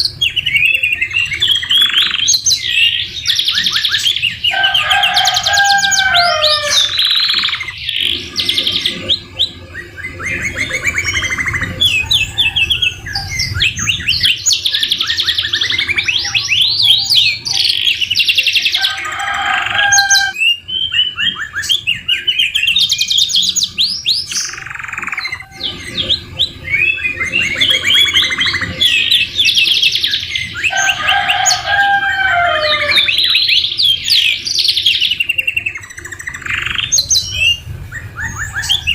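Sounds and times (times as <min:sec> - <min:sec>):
canary singing trills: 0:00.0 - 0:38.9
descending whistled bird phrases: 0:00.0 - 0:38.9.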